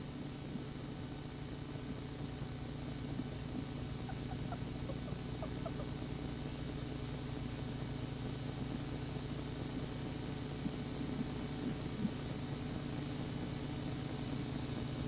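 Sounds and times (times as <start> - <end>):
steady hiss and low hum: 0.0 - 15.0.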